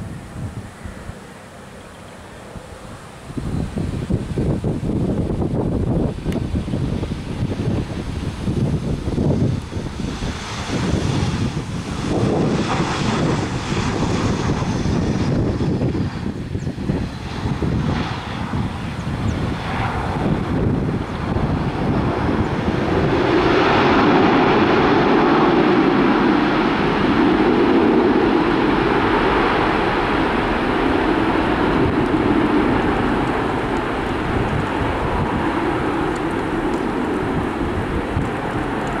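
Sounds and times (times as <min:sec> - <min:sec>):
jet engines reverse thrust rushing: 0:00.0 - 0:39.0.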